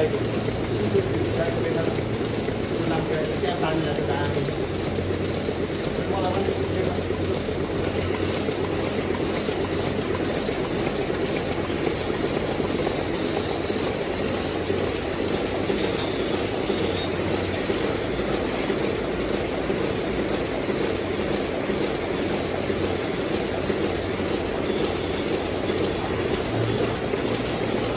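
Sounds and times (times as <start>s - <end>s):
mechanical rumble and hiss: 0.0s - 27.9s.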